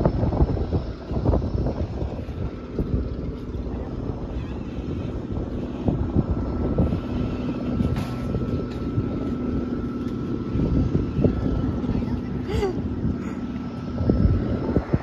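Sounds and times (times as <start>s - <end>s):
propeller engine droning: 0.0s - 15.0s.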